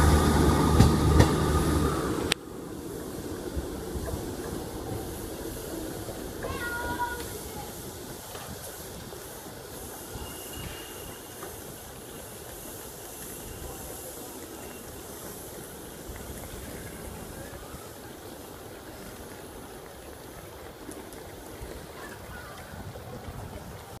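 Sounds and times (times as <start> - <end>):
diesel train rumble and hiss: 0.0 - 24.0.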